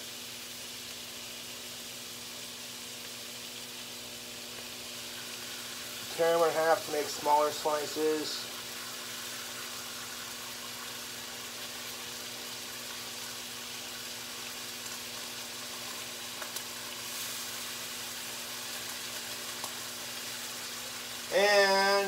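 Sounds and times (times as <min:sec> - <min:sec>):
margarine sizzling in a skillet: 0:00.0 - 0:22.0.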